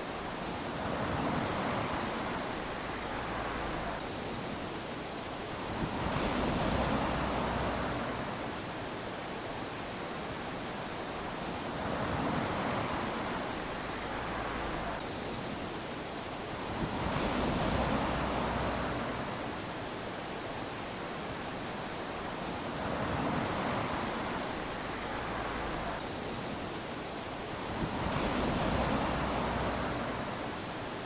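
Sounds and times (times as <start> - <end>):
waves lapping on sandy beach: 0.0 - 31.0.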